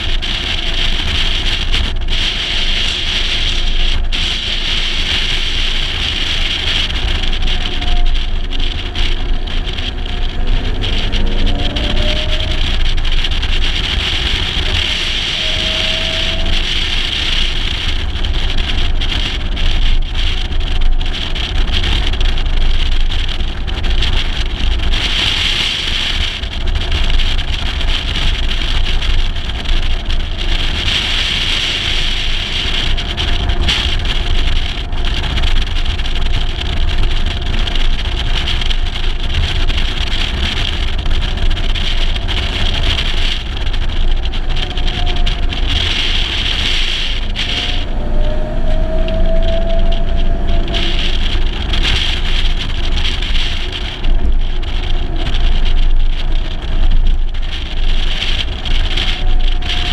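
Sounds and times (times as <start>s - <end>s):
heavy wind noise: 0.0s - 59.9s
road noise: 0.0s - 59.9s.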